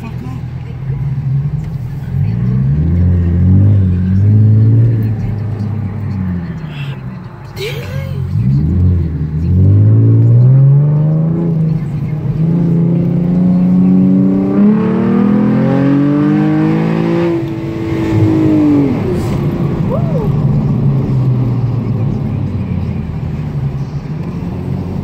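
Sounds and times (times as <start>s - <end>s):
car engine accelerating: 0.0s - 25.0s
road noise: 0.0s - 25.0s.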